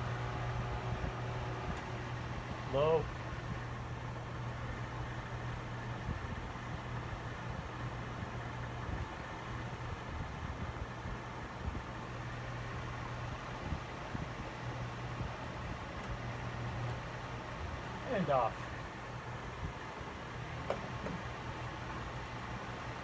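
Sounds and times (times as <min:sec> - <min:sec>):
box fan running: 0:00.0 - 0:23.0.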